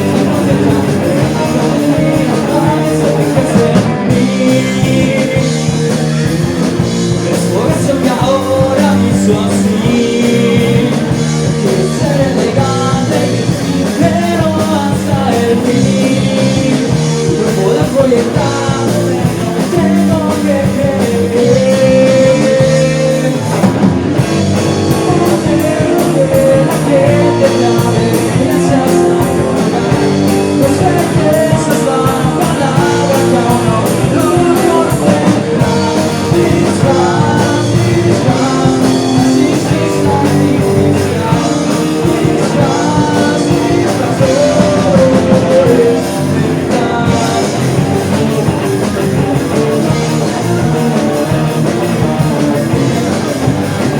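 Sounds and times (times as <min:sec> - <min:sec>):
band playing rock song: 0:00.0 - 0:53.9
electric guitar: 0:00.0 - 0:53.9
person singing: 0:00.0 - 0:53.9.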